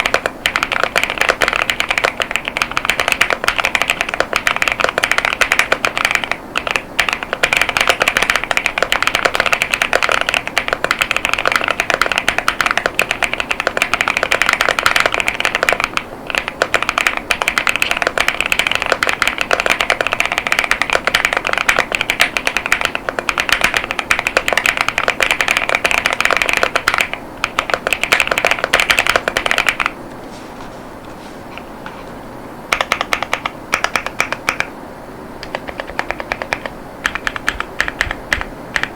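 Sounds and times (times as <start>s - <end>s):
fast typing on mechanical keyboard: 0.0s - 30.0s, 32.7s - 34.7s, 35.4s - 38.9s.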